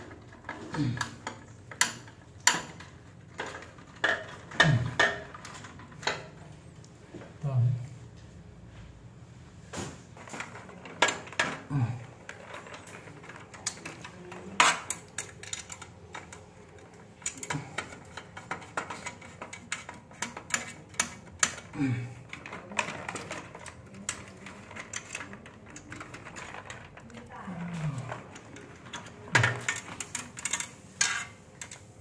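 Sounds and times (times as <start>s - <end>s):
small hard parts clicking and tapping: 0.0s - 7.3s, 9.8s - 32.0s.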